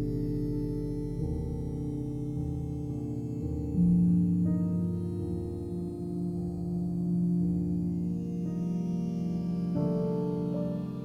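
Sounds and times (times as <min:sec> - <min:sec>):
soft sustained keyboard music: 0:00.0 - 0:11.0.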